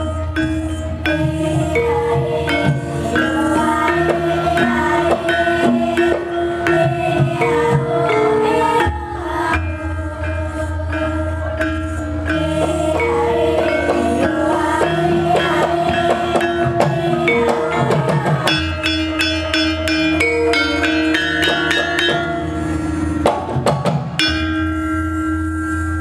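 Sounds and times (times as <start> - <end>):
drum strokes: 0.0 - 25.3
gongs and metallophones ringing: 0.0 - 26.0.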